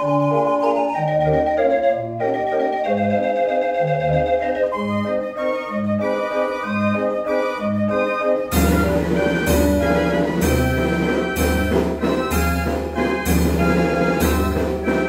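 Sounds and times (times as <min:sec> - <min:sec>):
street organ playing a tune: 0:00.0 - 0:15.0.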